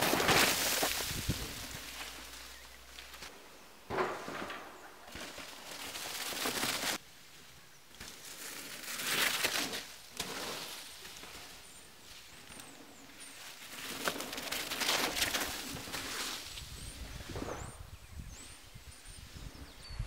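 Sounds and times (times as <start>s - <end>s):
bike tyres rushing through dry leaves: 0.0s - 3.3s, 4.2s - 17.9s.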